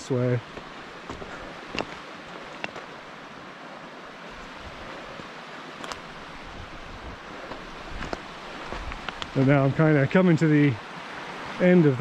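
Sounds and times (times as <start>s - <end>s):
mountain creek rushing: 0.0s - 12.0s.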